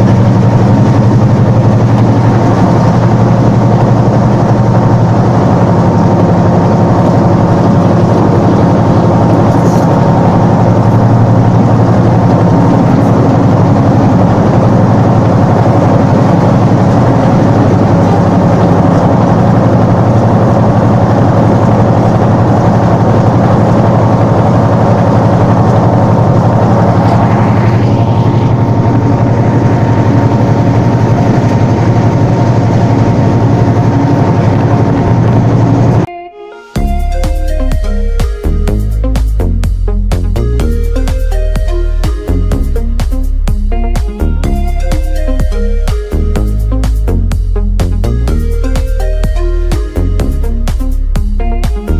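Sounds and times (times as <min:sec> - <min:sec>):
locomotive diesel engine running: 0:00.0 - 0:36.1, 0:36.8 - 0:51.9.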